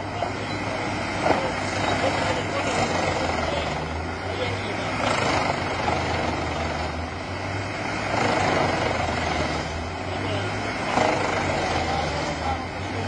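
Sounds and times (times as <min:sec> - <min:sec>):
tractor engine drone: 0:00.0 - 0:13.0
wood chipper chipping logs: 0:00.0 - 0:13.0.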